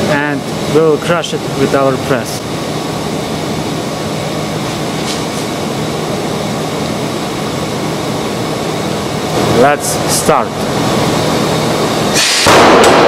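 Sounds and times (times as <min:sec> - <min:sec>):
hydraulic press power unit drone: 0:00.0 - 0:13.0.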